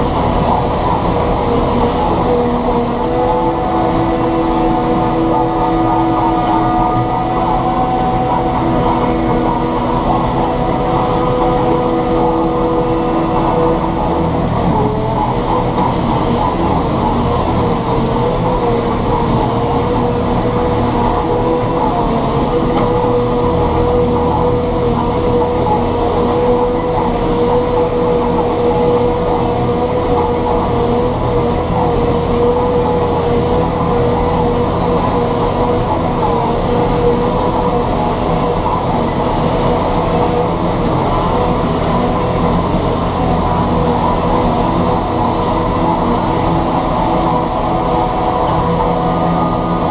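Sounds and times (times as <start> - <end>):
steady whine: 0.0 - 49.9
tractor diesel engine running: 0.0 - 49.9.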